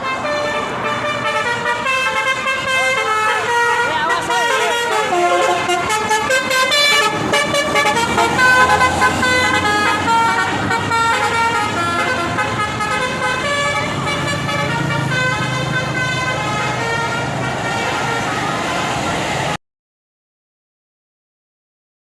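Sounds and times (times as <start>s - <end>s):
bus engine rumbling: 0.0s - 19.6s
bus horn playing a melody: 0.0s - 19.6s.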